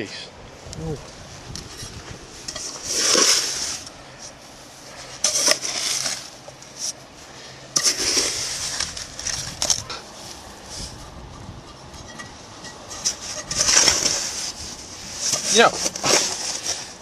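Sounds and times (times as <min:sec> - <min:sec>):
pan scraping into sand: 0:01.6 - 0:07.0, 0:07.7 - 0:17.0.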